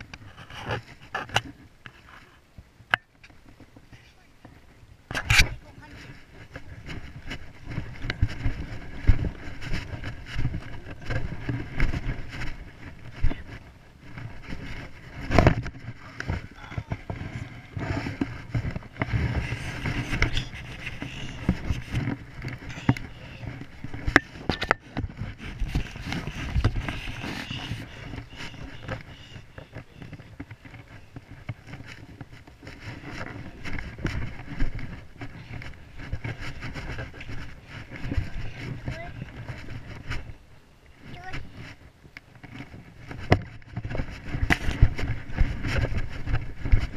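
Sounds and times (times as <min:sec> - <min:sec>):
camera handling rumble and rubbing: 0:00.0 - 0:46.9.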